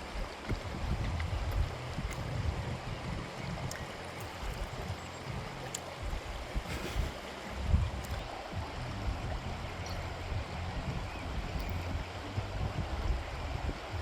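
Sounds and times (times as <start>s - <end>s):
low rumble: 0.0s - 14.0s
river water rushing: 0.0s - 14.0s.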